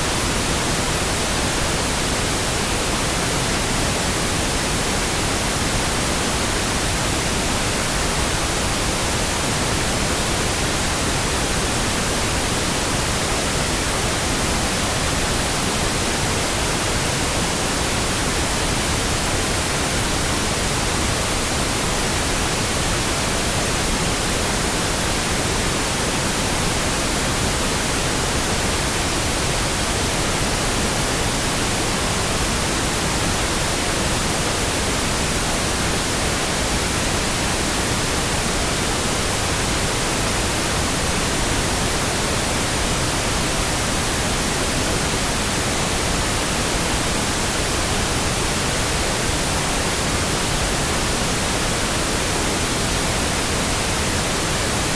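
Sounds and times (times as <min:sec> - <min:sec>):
steady pink noise hiss: 0:00.0 - 0:54.9.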